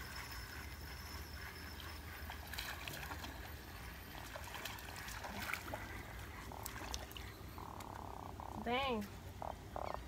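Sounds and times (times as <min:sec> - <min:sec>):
water lapping and trickling: 0:00.0 - 0:10.0.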